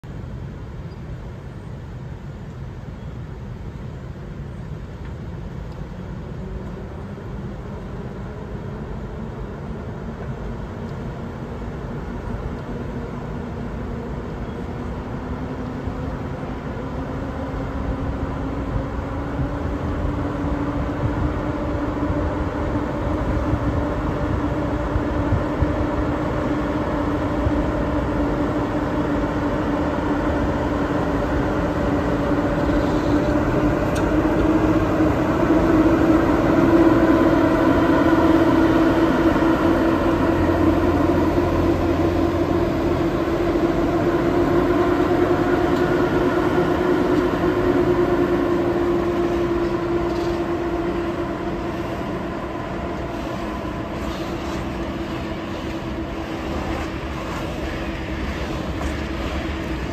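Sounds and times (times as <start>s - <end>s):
electric locomotive whine: 0.0s - 59.9s
low train rumble: 0.0s - 59.9s.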